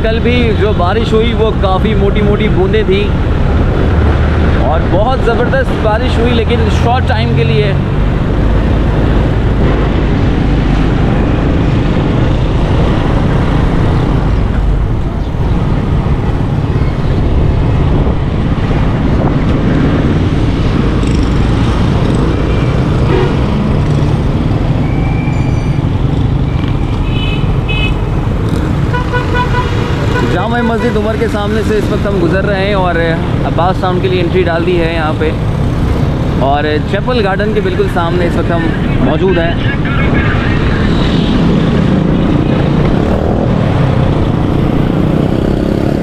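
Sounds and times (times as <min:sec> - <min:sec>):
street traffic: 0:00.0 - 0:46.0.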